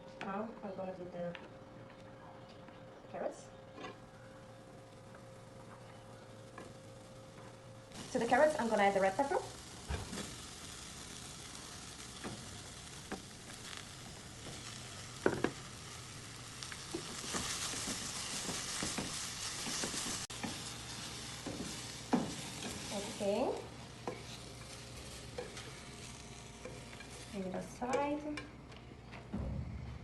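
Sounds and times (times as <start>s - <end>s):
vegetables sizzling in a pan: 4.1s - 28.6s.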